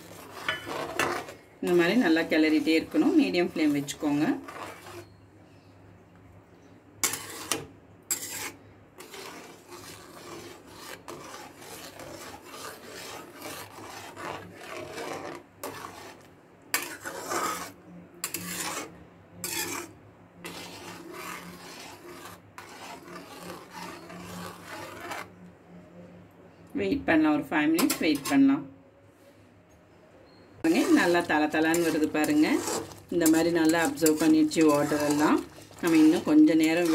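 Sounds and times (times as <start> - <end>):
metal spatula scraping pan: 0.0 - 5.2, 7.0 - 25.4, 27.8 - 28.6, 30.6 - 36.9.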